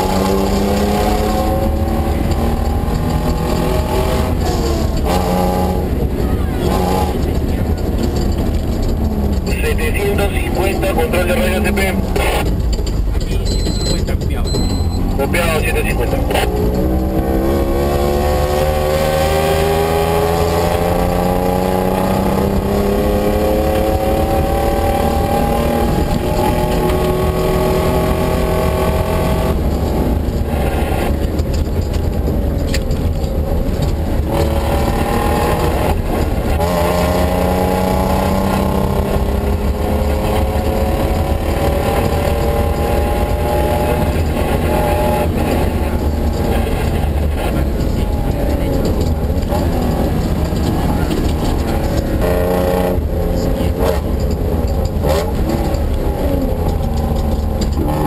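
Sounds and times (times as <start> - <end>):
car engine revving through gears: 0.0 - 58.0
road noise rushing: 0.0 - 58.0.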